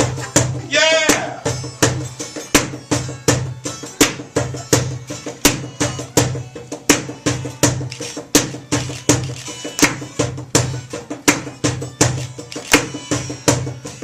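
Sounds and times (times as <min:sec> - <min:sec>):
band playing instrumental groove: 0:00.0 - 0:14.0
drum beat: 0:00.0 - 0:14.0.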